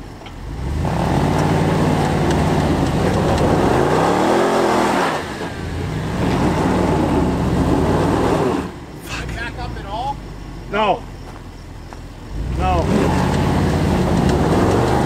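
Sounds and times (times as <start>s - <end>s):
tyres spinning in loose dirt: 0.0s - 10.4s, 12.2s - 15.0s
car engine revving hard: 0.4s - 9.9s, 12.3s - 15.0s.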